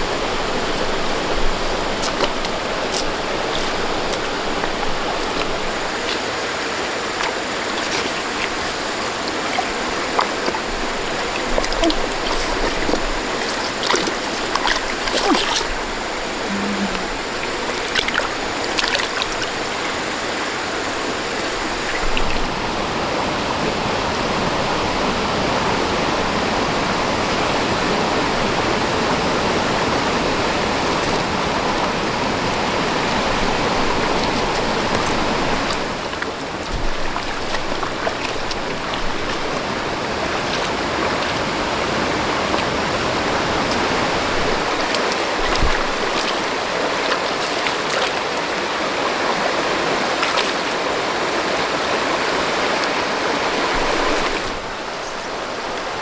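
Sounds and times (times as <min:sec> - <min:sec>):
running water rushing: 0:00.0 - 0:56.0
small splashes: 0:00.0 - 0:56.0.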